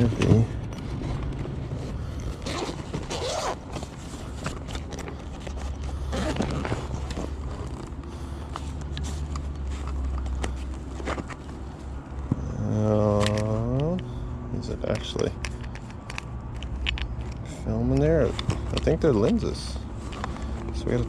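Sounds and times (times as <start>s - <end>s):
rustling and scraping of belongings: 0.0s - 21.0s.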